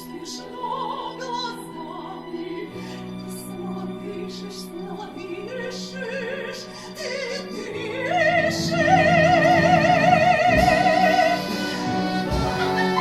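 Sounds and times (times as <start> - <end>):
operatic singing: 0.0 - 13.0
orchestral accompaniment: 0.0 - 13.0.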